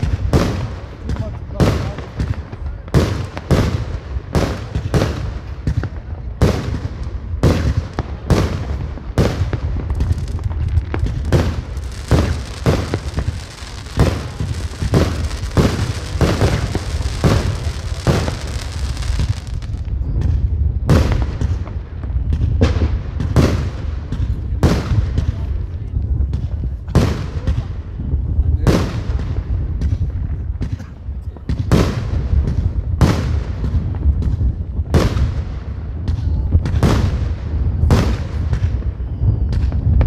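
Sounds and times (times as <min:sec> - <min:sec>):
crackling hiss of fireworks: 0:00.0 - 0:40.0
firework bangs: 0:00.0 - 0:40.0.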